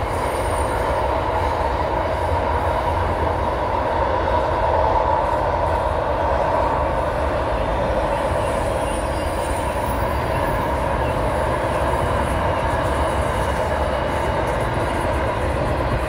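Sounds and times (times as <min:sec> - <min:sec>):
freight train wagons rumbling on rails: 0:00.0 - 0:16.0.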